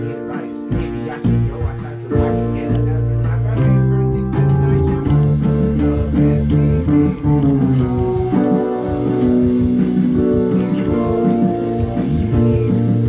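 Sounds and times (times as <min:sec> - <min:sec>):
electric bass guitar plucked: 0:00.0 - 0:13.0
sustained guitar chords: 0:00.0 - 0:13.0.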